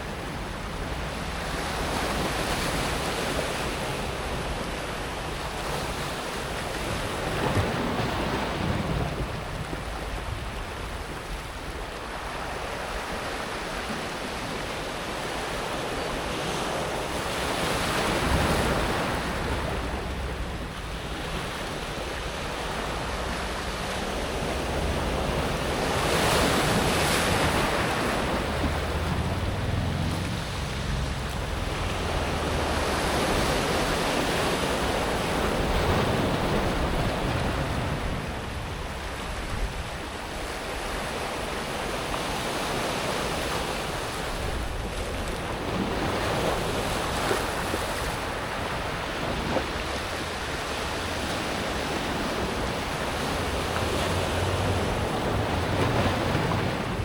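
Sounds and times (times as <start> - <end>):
waves washing over pebbles: 0.0 - 57.0
wind on microphone: 0.0 - 57.0.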